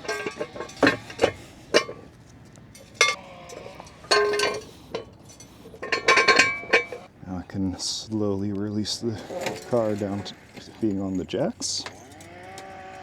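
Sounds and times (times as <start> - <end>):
metallic clinks and clanks: 0.0 - 7.1, 8.0 - 13.0
scraping squeal: 0.0 - 7.1, 8.8 - 13.0.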